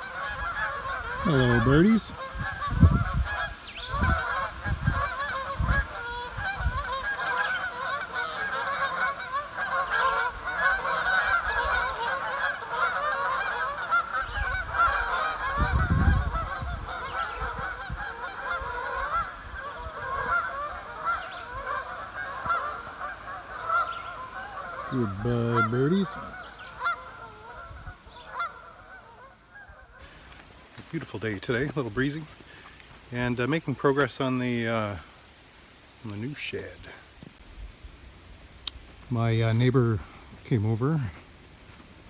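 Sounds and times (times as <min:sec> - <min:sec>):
geese honking: 0:00.0 - 0:35.4.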